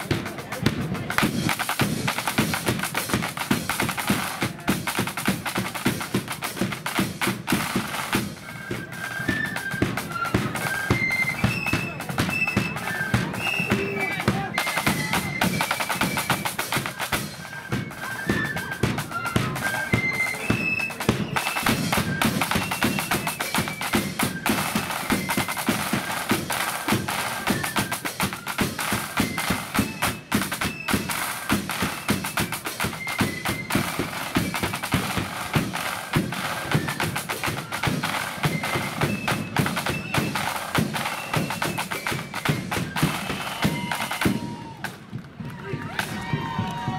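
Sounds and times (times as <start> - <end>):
flutes playing melody: 0.0 - 46.9
side drum rolls: 0.0 - 46.9.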